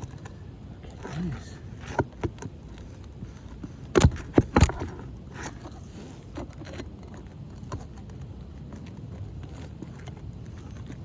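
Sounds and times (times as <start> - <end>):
tool tapping and scraping shingles: 0.0 - 11.0.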